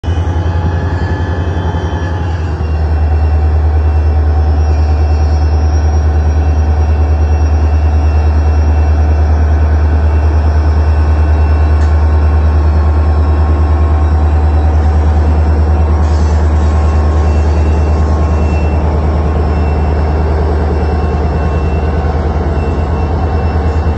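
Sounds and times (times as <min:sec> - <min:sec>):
diesel locomotive engine throbbing: 0:00.0 - 0:23.9.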